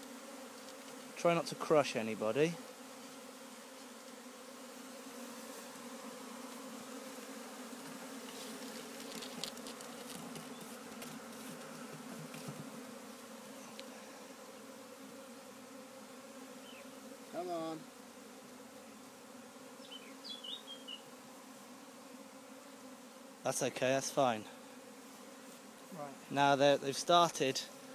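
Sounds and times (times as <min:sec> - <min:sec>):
swarm of bees buzzing: 0:00.0 - 0:27.9.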